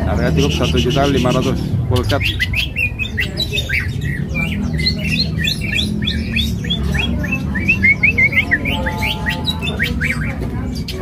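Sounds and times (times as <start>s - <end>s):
low background din: 0.0s - 11.0s
bird singing chirps and whistles: 0.1s - 11.0s.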